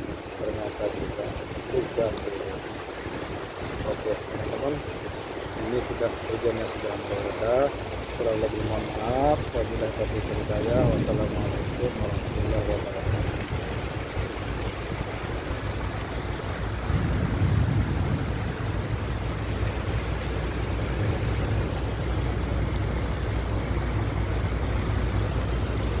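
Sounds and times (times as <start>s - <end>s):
constant low rumble: 0.0s - 26.0s
rain: 0.0s - 26.0s.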